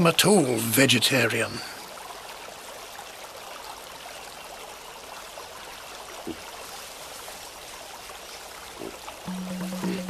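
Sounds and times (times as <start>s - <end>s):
river water running: 0.0s - 10.0s.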